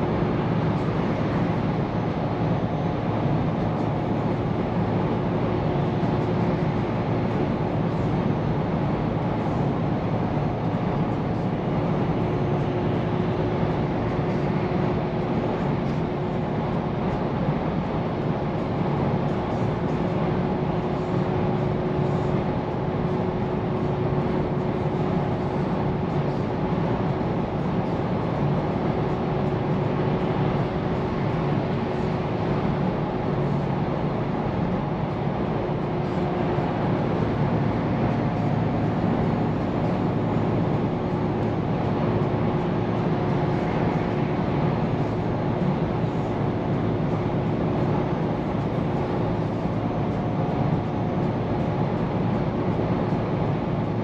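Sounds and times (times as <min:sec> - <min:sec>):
faint constant whine: 0:00.0 - 0:54.0
truck engine and road drone: 0:00.0 - 0:54.0.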